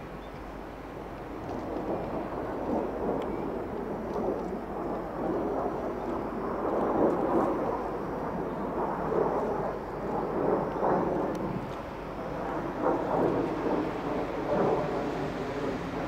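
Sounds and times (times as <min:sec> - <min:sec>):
jet engines rumbling overhead: 0:00.0 - 0:16.0.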